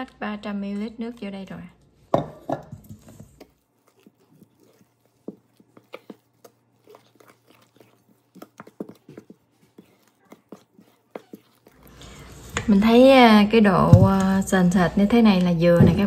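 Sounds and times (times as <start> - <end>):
spatula stirring batter in bowl: 0.0 - 16.0.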